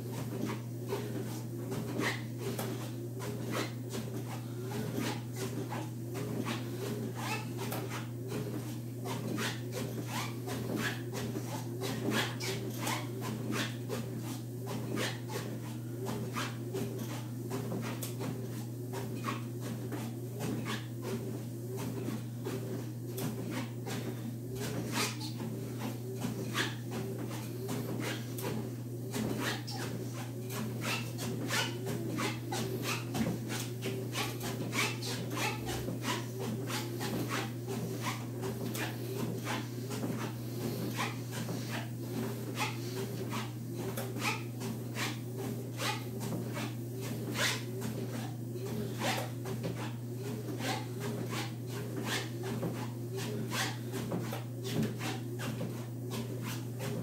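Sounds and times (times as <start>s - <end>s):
footsteps on treadmill belt: 0.0s - 57.0s
treadmill motor hum: 0.0s - 57.0s.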